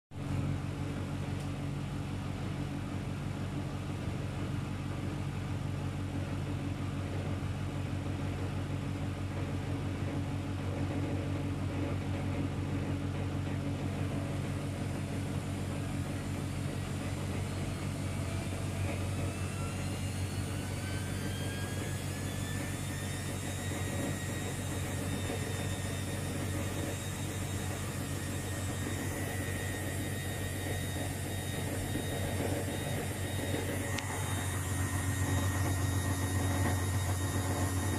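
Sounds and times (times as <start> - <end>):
rising drum whine: 0.2 - 37.9
washing machine spinning: 0.2 - 37.9.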